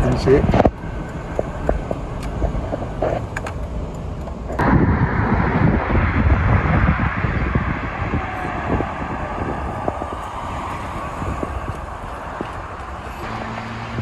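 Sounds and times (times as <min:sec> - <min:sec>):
engine and tyre rumble: 0:00.0 - 0:14.0
road and wind noise: 0:00.0 - 0:14.0.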